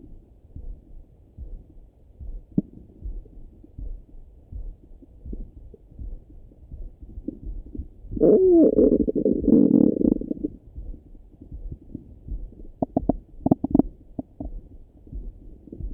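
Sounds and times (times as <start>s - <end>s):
heartbeat thumps through stethoscope: 0.0s - 15.9s.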